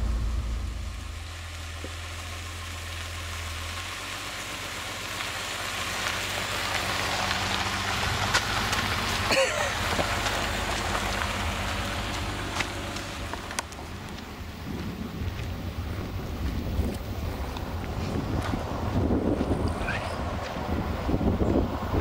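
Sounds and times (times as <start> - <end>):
low engine hum: 0.0 - 22.0
tyres crunching on gravel: 0.0 - 22.0.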